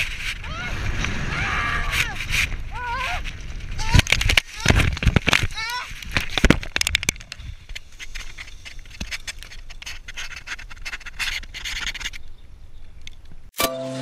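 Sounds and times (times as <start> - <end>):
leaves rustling against camera: 0.0 - 13.5.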